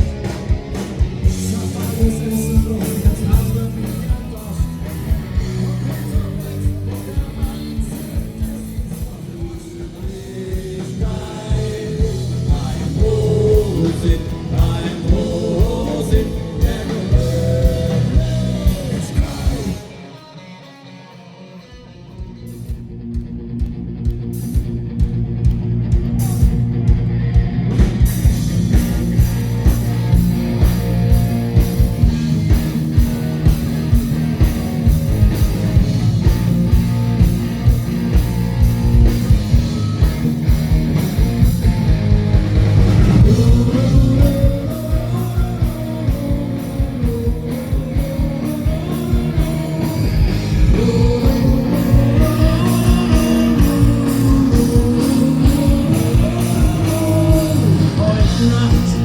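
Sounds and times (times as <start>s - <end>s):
rock band playing: 0.0s - 59.0s
gliding lead guitar melody: 11.2s - 59.0s.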